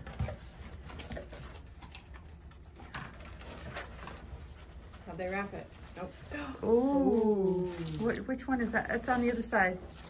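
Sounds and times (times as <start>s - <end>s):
paper and packing rustling: 0.0s - 10.0s.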